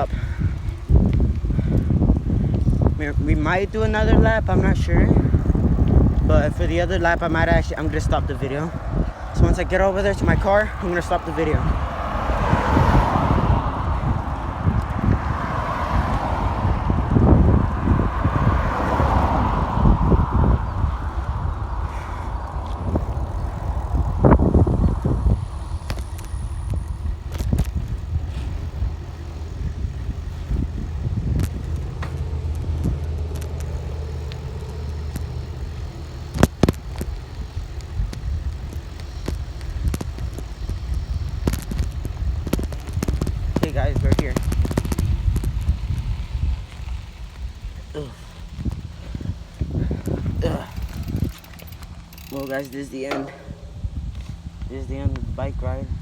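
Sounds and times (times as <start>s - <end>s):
road traffic rumble: 0.0s - 56.0s
wind buffeting microphone: 0.0s - 56.0s.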